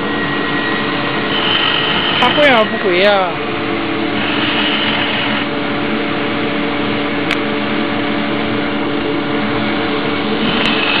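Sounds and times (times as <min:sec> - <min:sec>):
router and dust collector humming: 0:00.0 - 0:11.0.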